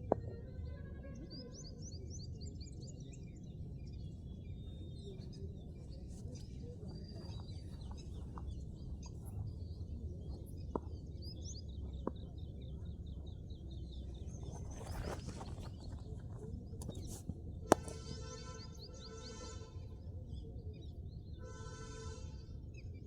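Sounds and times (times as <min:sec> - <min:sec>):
small birds chirping: 0:00.2 - 0:21.5.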